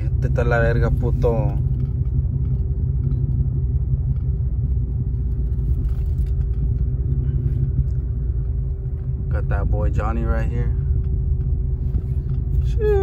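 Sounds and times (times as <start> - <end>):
faint hum: 0.0 - 13.0
truck engine and road noise: 0.0 - 13.0.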